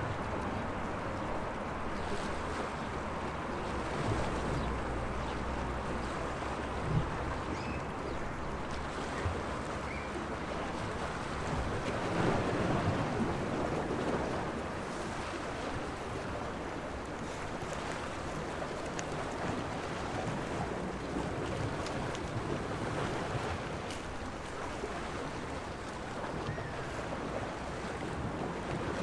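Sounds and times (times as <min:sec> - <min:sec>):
waves lapping against shore: 0:00.0 - 0:29.0.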